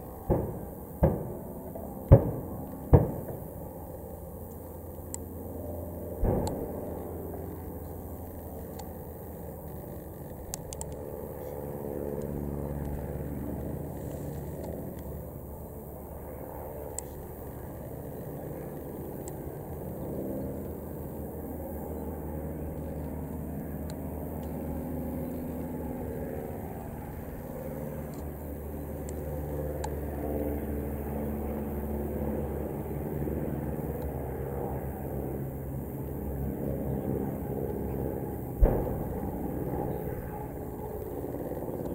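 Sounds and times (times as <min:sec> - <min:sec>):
propeller planes droning overhead: 0:00.0 - 0:41.9.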